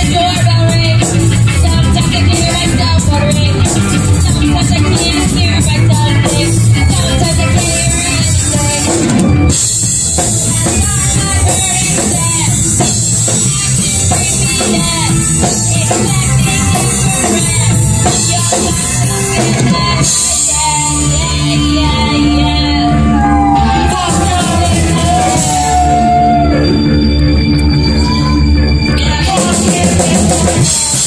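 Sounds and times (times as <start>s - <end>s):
person singing: 0.0s - 26.8s, 27.7s - 31.0s
live rock band playing: 0.0s - 31.0s.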